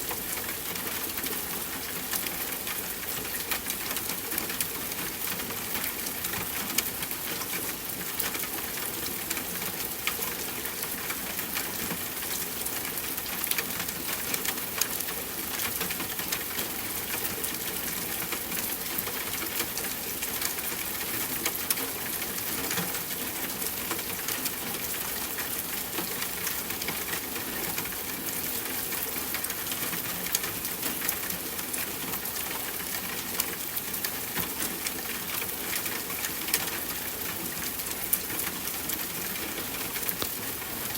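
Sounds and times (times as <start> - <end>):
raindrops ticking on surfaces: 0.0 - 40.9
steady rain falling: 0.0 - 40.9.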